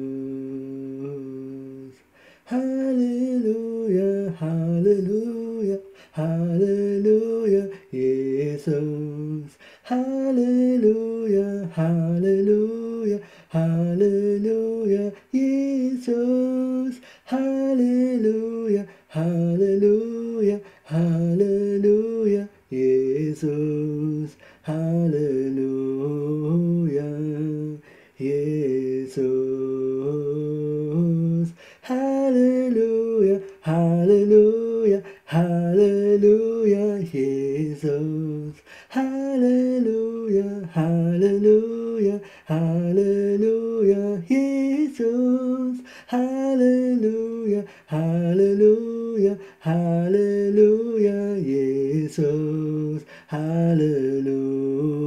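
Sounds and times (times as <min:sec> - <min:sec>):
man singing unaccompanied: 0:00.0 - 0:55.0.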